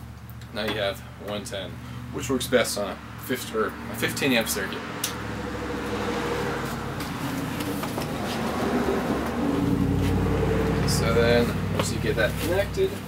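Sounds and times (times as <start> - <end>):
engine-like hum: 0.0 - 13.0.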